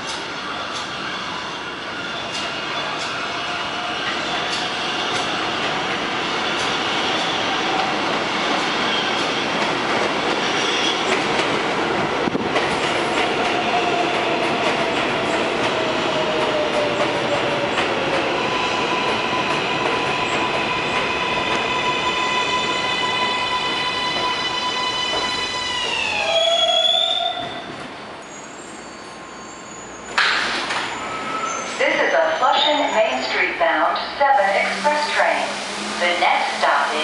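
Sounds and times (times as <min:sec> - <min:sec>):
train wheels on rails: 0:00.0 - 0:29.3, 0:29.9 - 0:31.8.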